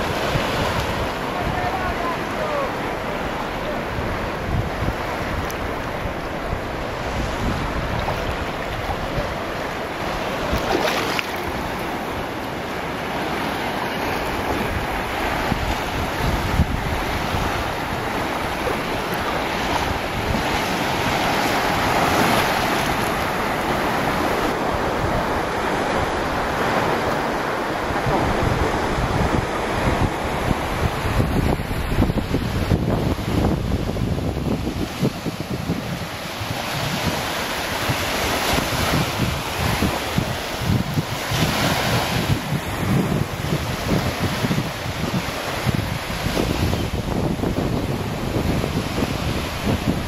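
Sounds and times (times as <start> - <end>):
sea surf washing onto beach: 0.0 - 50.0
wind buffeting microphone: 0.0 - 50.0.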